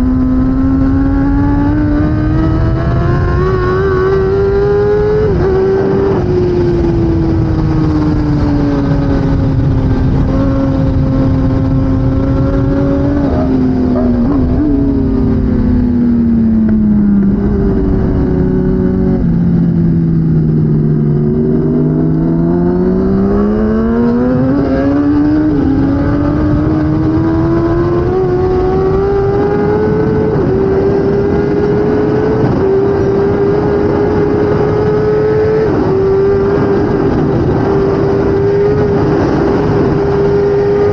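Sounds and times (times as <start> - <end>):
superbike engine downshifting and accelerating: 0.0 - 40.9.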